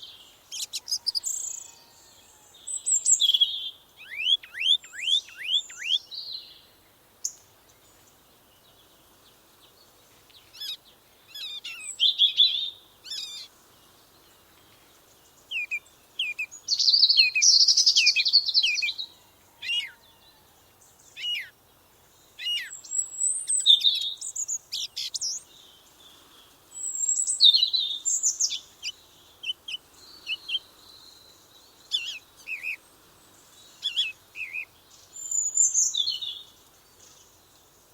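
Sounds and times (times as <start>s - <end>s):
songbirds chirping and singing: 0.0s - 37.9s.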